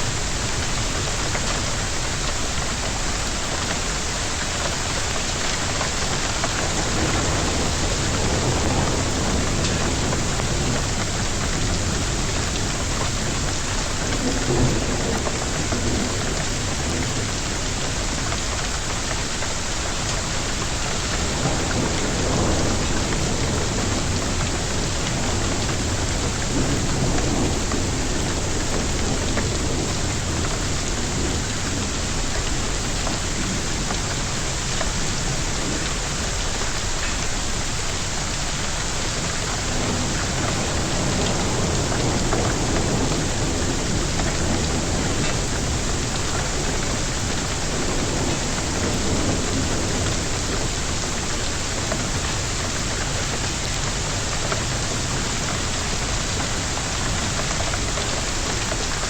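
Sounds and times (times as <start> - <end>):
heavy rain downpour: 0.0 - 59.0
low thunder rumbles: 0.0 - 59.0.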